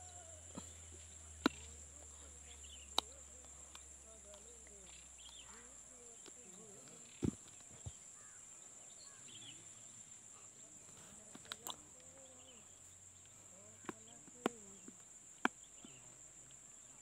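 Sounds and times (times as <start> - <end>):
distant voices murmuring: 0.0 - 17.0.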